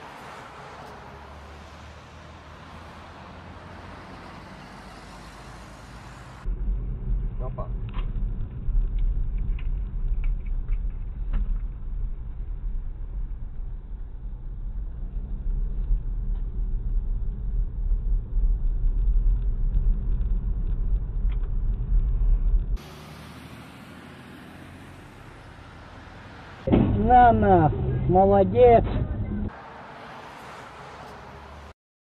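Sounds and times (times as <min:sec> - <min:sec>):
car interior road and engine rumble: 0:00.0 - 0:31.7.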